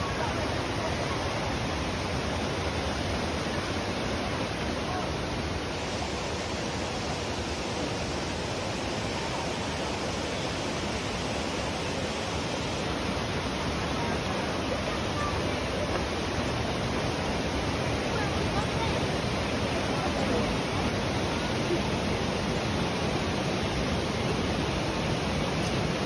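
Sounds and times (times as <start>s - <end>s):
creek water rushing over rocks: 0.0s - 26.0s.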